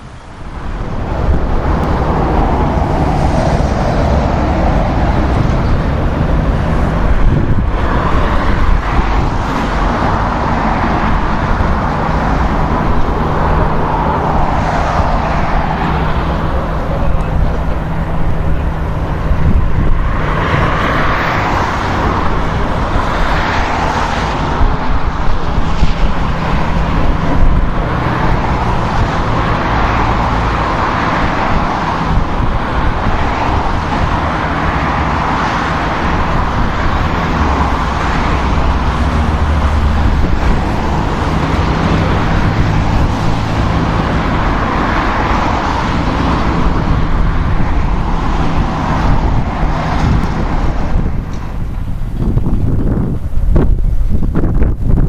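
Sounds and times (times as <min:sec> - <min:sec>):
aircraft rushing noise: 0:00.0 - 0:55.0.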